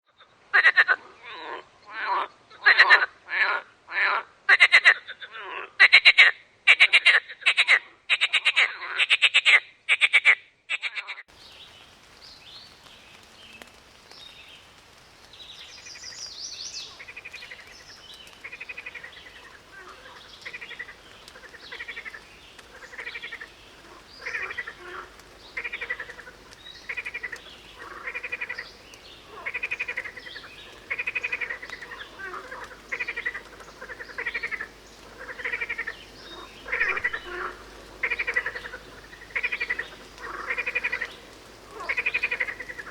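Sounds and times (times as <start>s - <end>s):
frogs croaking: 0.1s - 11.7s, 12.6s - 42.9s.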